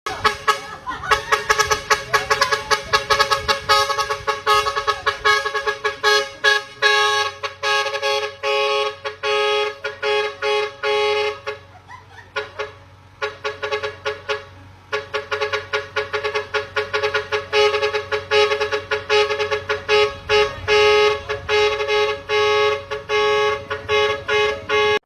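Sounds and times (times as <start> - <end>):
vehicle horn playing a tune: 0.0 - 25.0.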